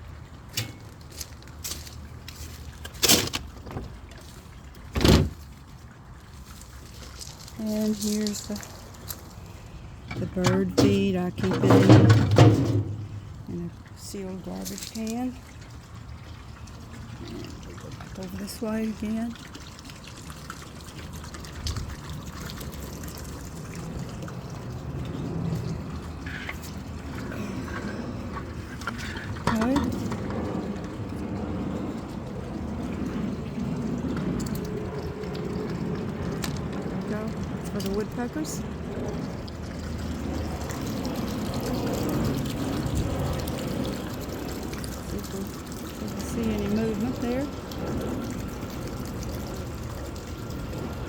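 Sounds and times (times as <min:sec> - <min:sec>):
faint steady background noise: 0:00.0 - 0:51.0
water trickling: 0:00.0 - 0:51.0.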